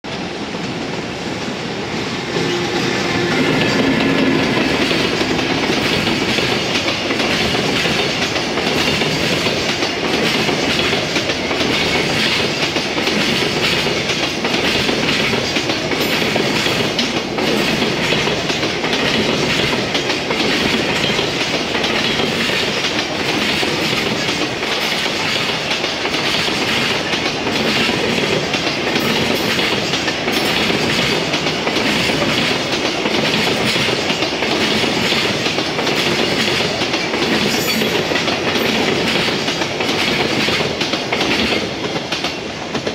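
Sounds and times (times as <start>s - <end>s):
train wheels rumbling on rails: 0.0s - 42.9s
wheels clacking over rail joints: 2.2s - 42.9s.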